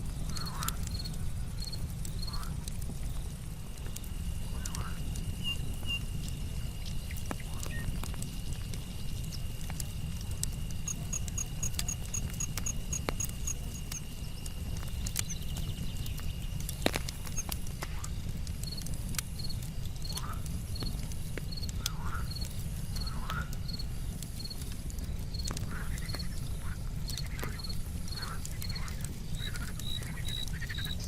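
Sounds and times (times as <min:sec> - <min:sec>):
campfire crackling and popping: 0:00.0 - 0:31.0
insects trilling: 0:00.2 - 0:03.4, 0:04.1 - 0:31.0
crickets chirping: 0:00.3 - 0:03.2, 0:04.2 - 0:17.6, 0:18.6 - 0:31.0.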